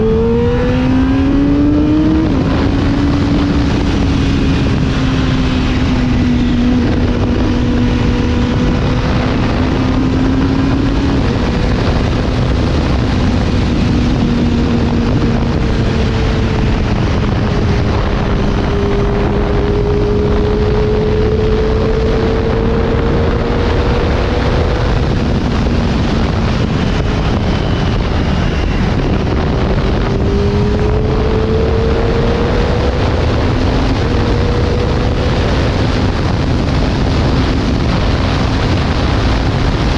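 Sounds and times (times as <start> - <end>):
motorcycle engine running: 0.0 - 39.9
wind blasting microphone: 0.0 - 39.9.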